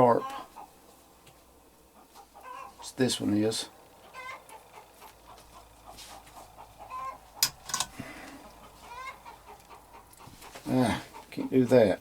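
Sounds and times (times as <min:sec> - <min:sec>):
clucking bird calls: 0:00.0 - 0:12.0.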